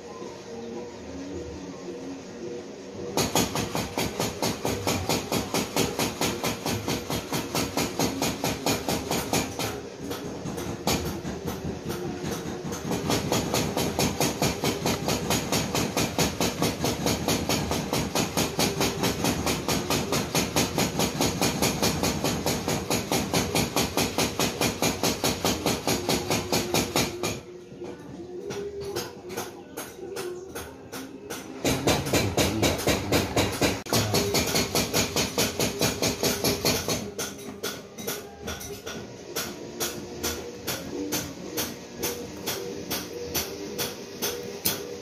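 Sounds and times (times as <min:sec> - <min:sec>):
rhythmic mechanical clatter: 0:02.7 - 0:45.0.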